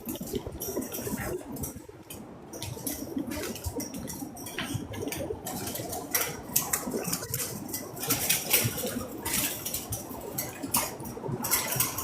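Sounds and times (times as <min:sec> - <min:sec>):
plastic tarp crackling in wind: 0:00.0 - 0:12.0.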